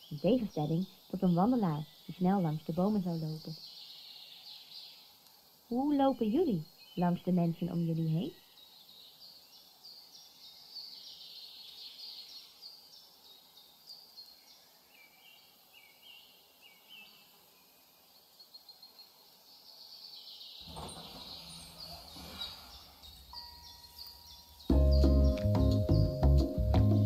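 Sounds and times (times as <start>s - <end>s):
faint birdsong chirping: 0.0s - 27.0s.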